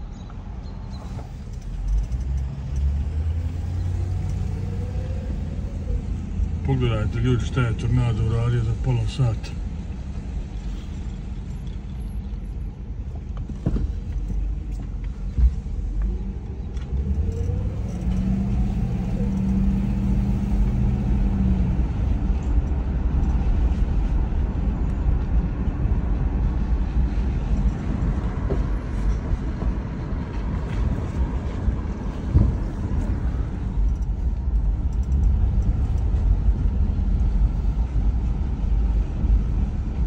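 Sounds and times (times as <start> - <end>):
car engine: 0.0 - 40.0
road rumble: 0.0 - 40.0.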